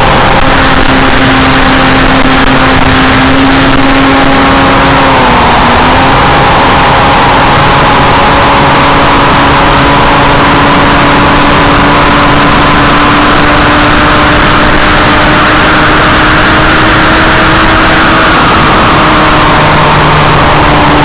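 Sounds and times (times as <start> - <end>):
model plane motor droning: 0.0 - 21.0
wind rush: 0.0 - 21.0.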